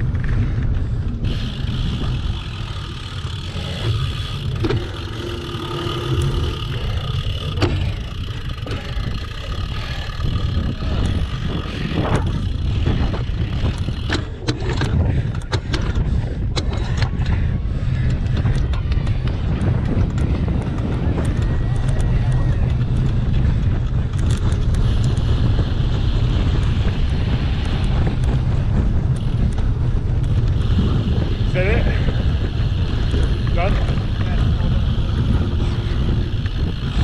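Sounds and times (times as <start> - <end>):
bike knocks and rattles: 0.0 - 37.0
wind buffeting microphone: 0.0 - 37.0.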